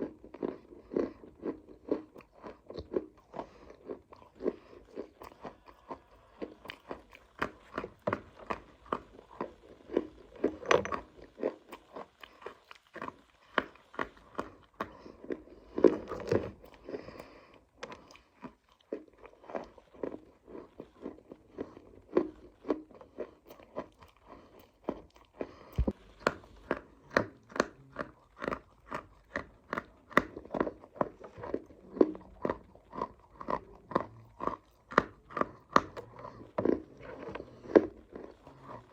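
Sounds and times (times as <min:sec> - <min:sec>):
crunching of dry clay chewed: 0:00.0 - 0:38.9.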